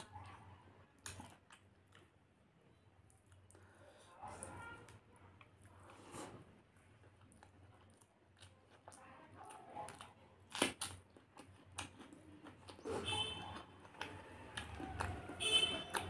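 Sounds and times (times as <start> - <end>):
chilli crunch: 0.0 - 16.0
wet chewing: 0.0 - 16.0.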